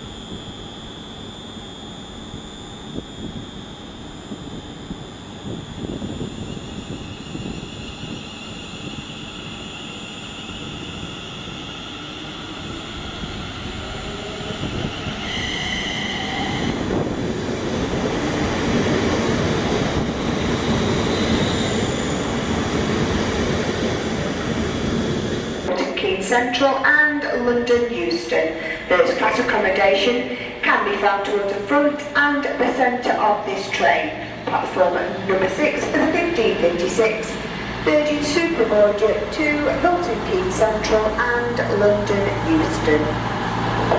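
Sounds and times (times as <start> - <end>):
high electric whine: 0.0 - 43.9
train rumbling on rails: 4.2 - 43.9.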